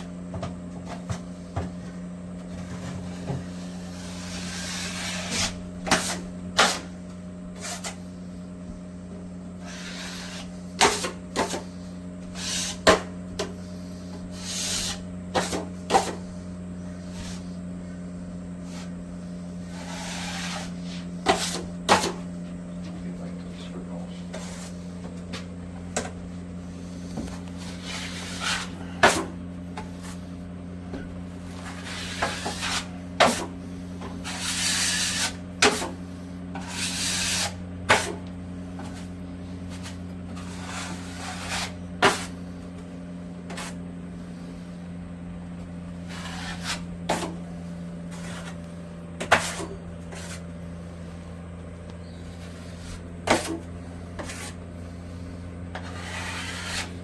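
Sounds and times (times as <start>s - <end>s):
steady low hum: 0.0s - 57.0s
plastering tools scraping: 0.8s - 8.2s, 9.5s - 17.6s, 18.6s - 44.8s, 45.6s - 51.2s, 52.0s - 57.0s.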